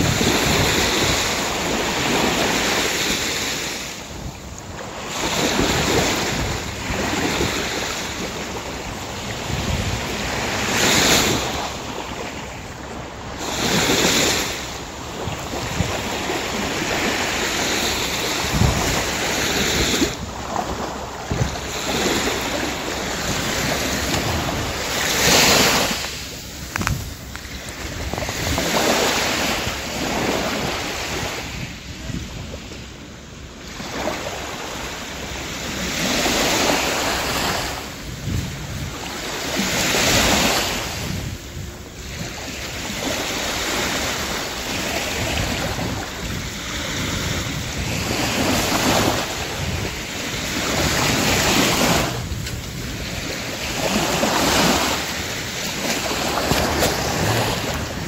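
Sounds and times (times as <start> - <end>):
sea waves washing on shore: 0.0 - 58.0.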